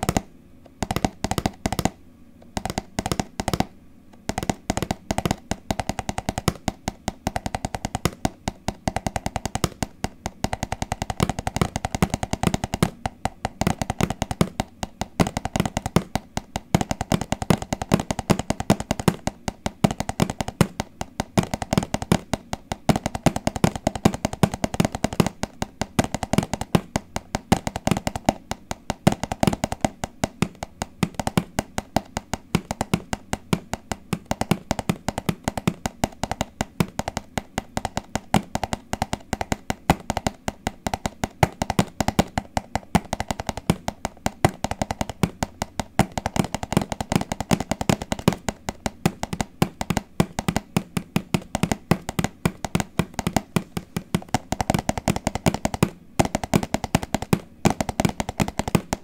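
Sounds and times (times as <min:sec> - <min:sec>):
fast tapping on hard object: 0:00.0 - 0:59.0.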